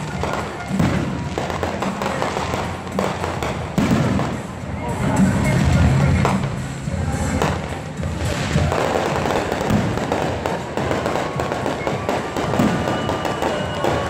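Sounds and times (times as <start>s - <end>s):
firework shells booming: 0.0s - 4.6s, 7.3s - 14.0s
firework crackling: 0.0s - 14.0s.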